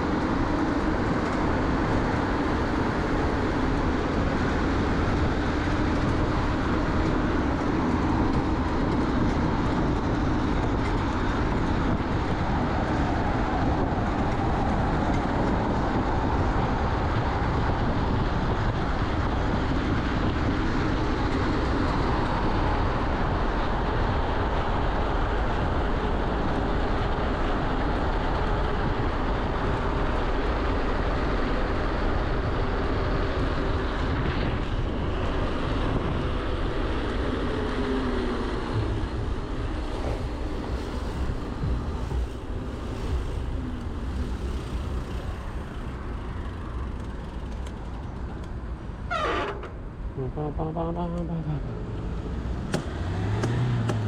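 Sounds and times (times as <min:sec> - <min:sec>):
wind rush: 0:00.0 - 0:49.1.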